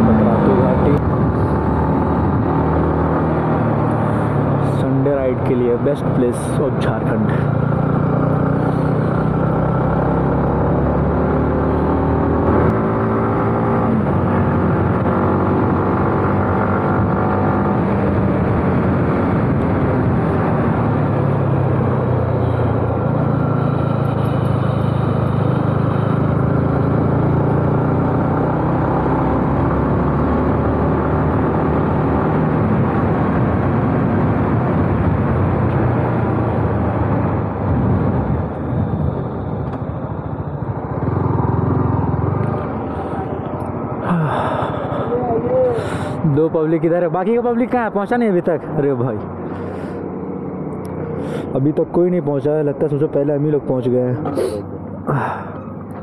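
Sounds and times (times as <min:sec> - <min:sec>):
motorcycle engine revving: 0:00.0 - 0:05.1, 0:05.7 - 0:46.2.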